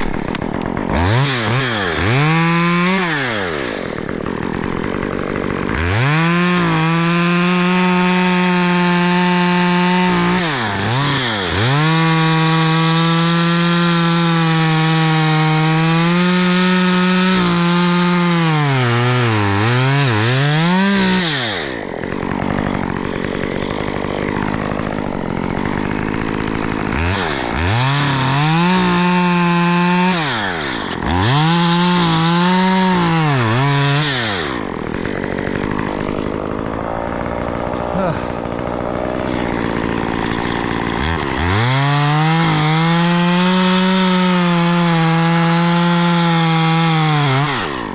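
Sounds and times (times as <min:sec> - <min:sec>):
chainsaw cutting wood: 0:00.0 - 0:47.9
chainsaw idling: 0:00.0 - 0:47.9.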